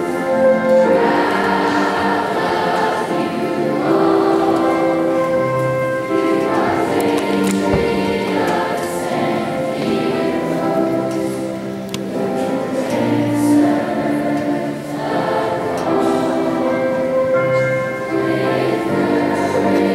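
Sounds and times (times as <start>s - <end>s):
children's choir singing: 0.0s - 19.9s.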